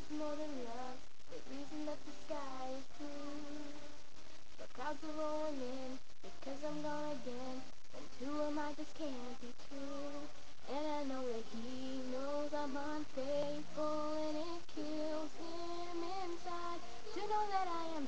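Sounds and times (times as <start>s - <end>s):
girl singing a slow ballad: 0.0s - 4.0s, 4.6s - 18.0s.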